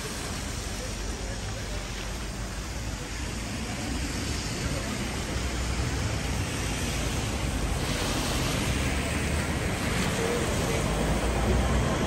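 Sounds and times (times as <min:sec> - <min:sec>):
cars passing on wet road: 0:00.0 - 0:12.0.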